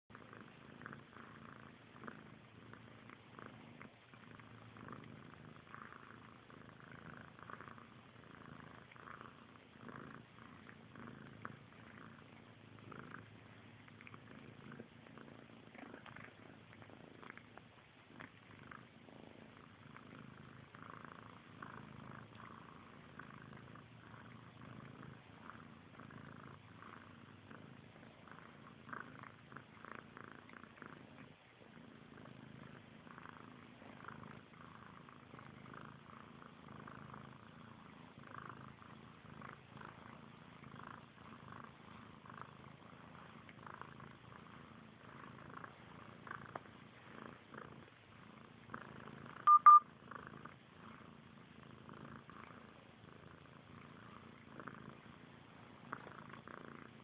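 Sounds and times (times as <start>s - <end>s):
kitten purring: 0.0s - 57.0s.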